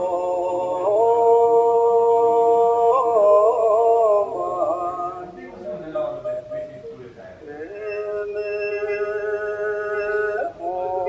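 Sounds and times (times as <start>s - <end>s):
person chanting: 0.0s - 11.0s.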